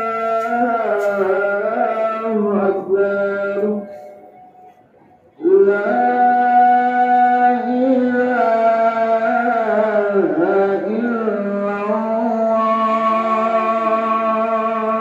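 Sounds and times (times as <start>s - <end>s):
call to prayer over loudspeakers: 0.0s - 15.0s.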